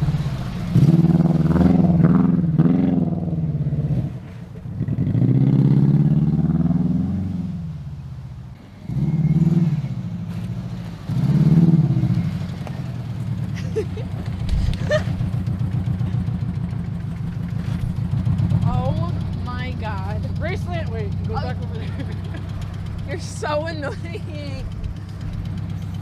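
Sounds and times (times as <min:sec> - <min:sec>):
car engine revving hard: 0:00.0 - 0:07.7, 0:08.6 - 0:26.0.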